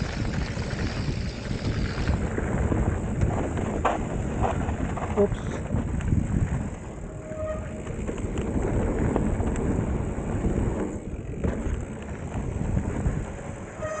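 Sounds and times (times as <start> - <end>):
bike tyres on trail: 0.0 - 14.0
wind rumble: 0.0 - 14.0.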